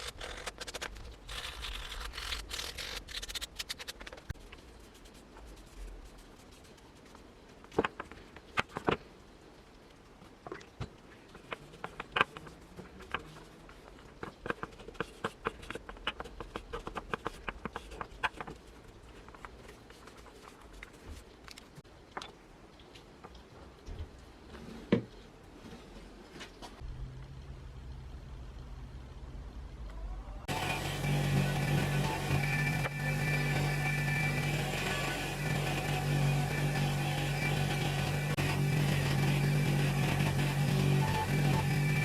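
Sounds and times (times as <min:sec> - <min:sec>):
scraping and scratching: 0:00.0 - 0:09.2, 0:10.1 - 0:26.8, 0:30.5 - 0:42.0.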